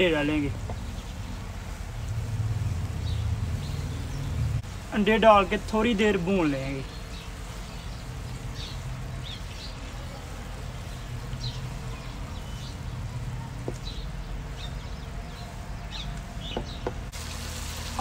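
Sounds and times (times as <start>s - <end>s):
birds chirping: 0.0s - 18.0s
low steady background noise: 0.0s - 18.0s.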